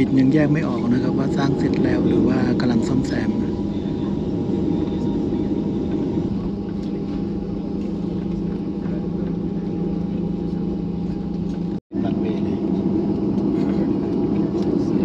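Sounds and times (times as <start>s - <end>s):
jet engine hum in cabin: 0.0s - 15.0s.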